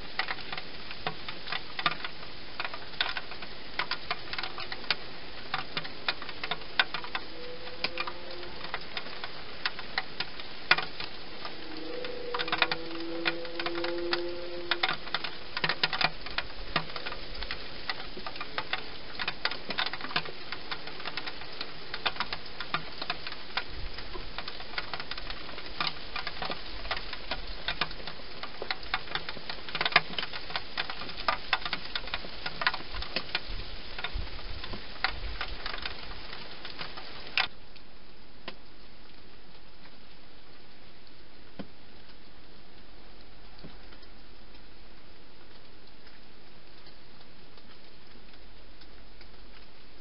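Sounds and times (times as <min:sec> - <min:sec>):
steady hiss: 0:00.0 - 0:50.0.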